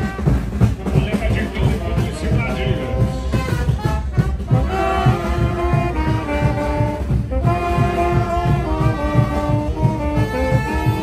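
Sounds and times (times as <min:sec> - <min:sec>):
brass band playing: 0:00.0 - 0:11.0
fast drumbeat: 0:00.0 - 0:11.0.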